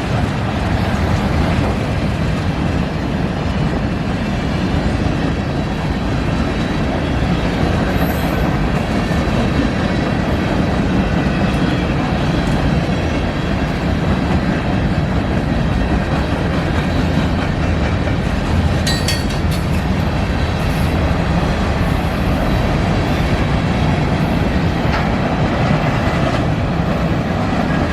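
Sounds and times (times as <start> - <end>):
train cars clanking: 0.0 - 27.9
train wheels rumbling on rail: 0.0 - 27.9.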